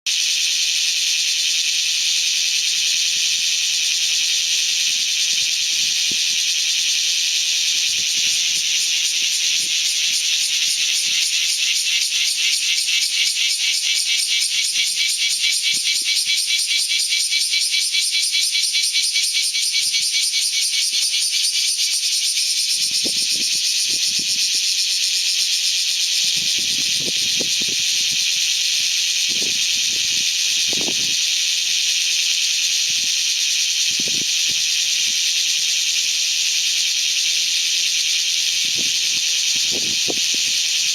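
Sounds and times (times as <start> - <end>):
cicada buzzing: 0.1 - 40.9.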